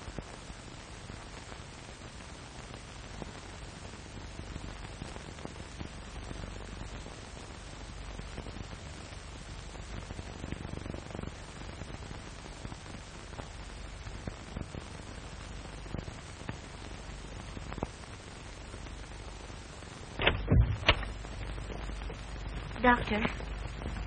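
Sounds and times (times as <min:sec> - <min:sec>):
film soundtrack hiss and crackle: 0:00.0 - 0:24.0
steady low hum: 0:00.0 - 0:24.0.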